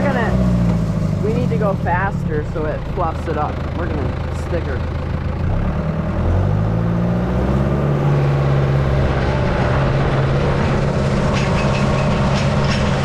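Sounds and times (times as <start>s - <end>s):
tractor engine revving: 0.0s - 13.0s.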